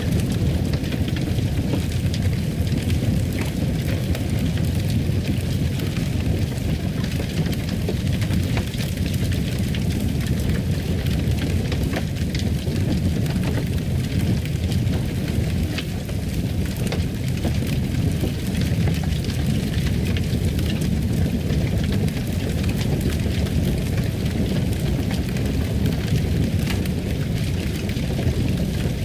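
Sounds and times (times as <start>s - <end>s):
fire crackles and pops: 0.0s - 29.0s
wood fire rumbling: 0.0s - 29.0s.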